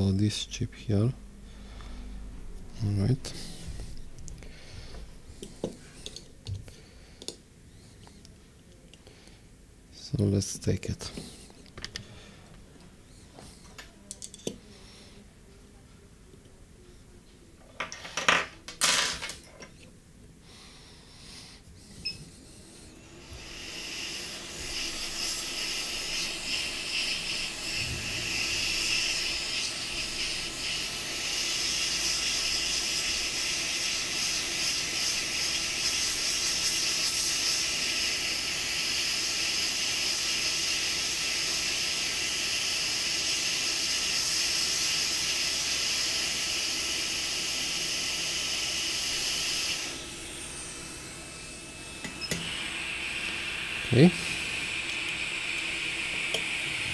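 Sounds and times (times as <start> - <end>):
hot air station hissing: 0.0 - 8.3, 10.2 - 13.8, 20.4 - 56.9.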